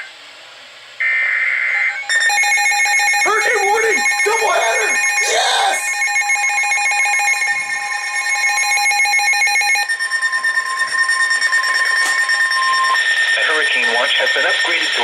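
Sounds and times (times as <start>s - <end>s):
steady single-pitch alarm tone: 1.0s - 15.0s.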